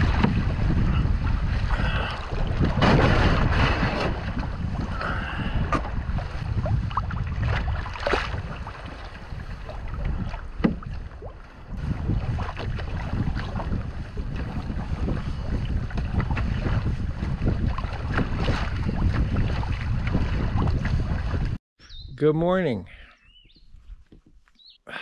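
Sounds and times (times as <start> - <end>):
water slapping against canoe: 0.0 - 21.6
wind buffeting microphone: 0.0 - 22.2.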